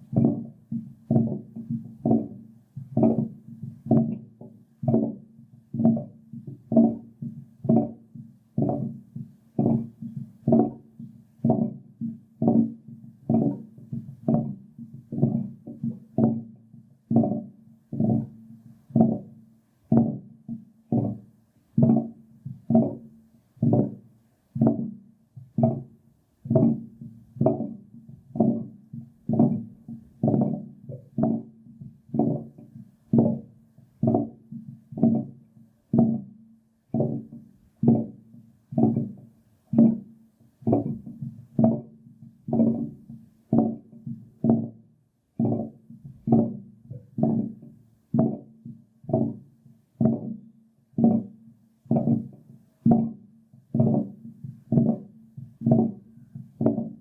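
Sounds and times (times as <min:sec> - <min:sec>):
water pipe knocking: 0:00.0 - 0:57.0.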